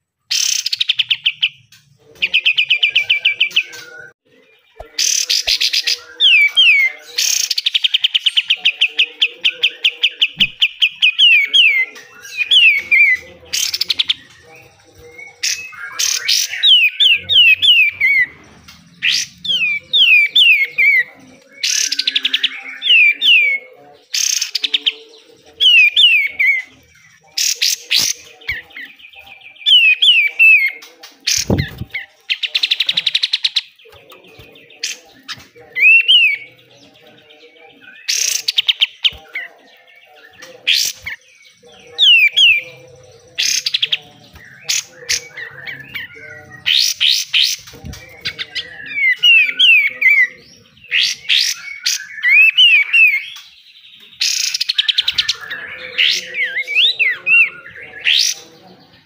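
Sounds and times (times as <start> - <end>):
bulbul singing: 0.0 - 59.0.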